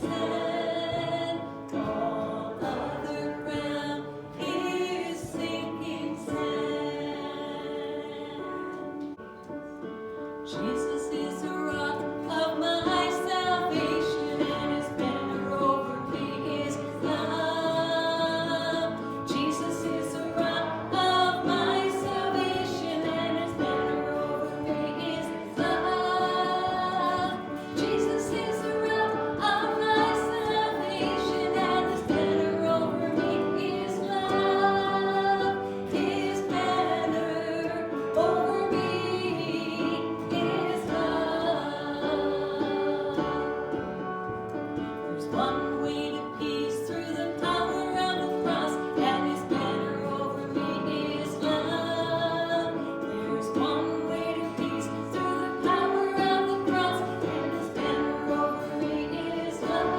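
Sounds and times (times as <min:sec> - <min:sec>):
group singing worship song: 0:00.0 - 0:09.2, 0:10.5 - 0:59.9
musical accompaniment: 0:00.0 - 0:59.9.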